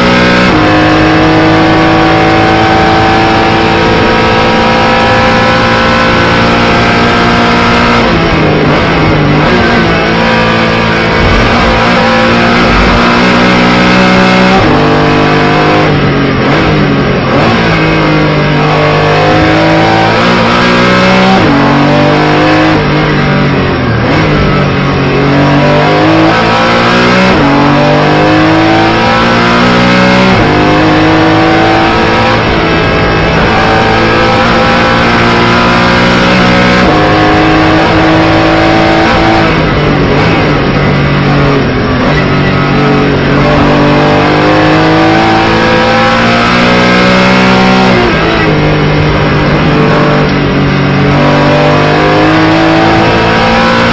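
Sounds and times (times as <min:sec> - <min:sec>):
race car engine with gear shifts: 0:00.0 - 0:53.9.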